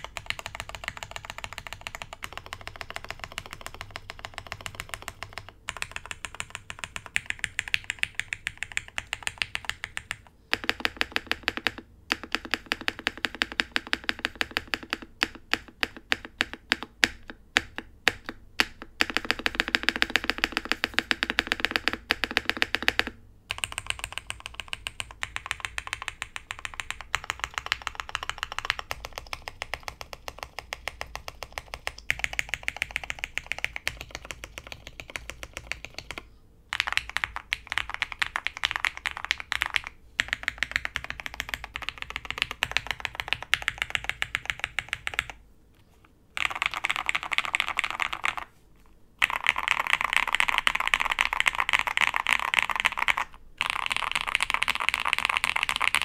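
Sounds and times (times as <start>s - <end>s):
mechanical keyboard typing: 0.0s - 45.4s, 46.4s - 48.5s, 49.2s - 56.0s.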